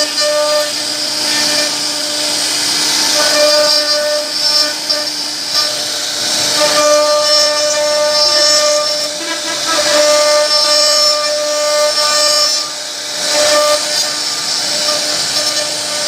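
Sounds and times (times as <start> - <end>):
cutter hissing in wood: 0.0 - 16.0
router spindle whine: 0.0 - 16.0.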